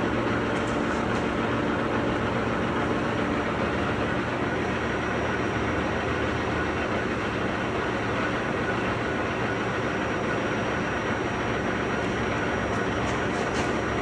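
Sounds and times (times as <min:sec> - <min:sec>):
lathe mechanical rumble: 0:00.0 - 0:14.0.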